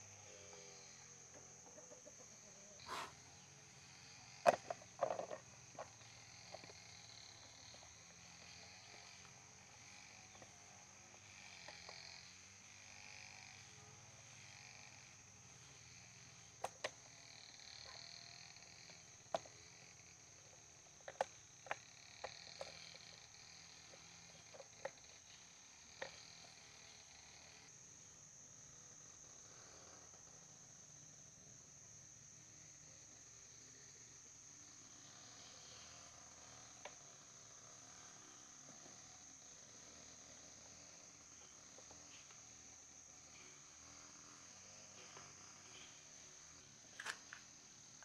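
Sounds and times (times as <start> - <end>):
faint steady background noise: 0.0 - 48.0.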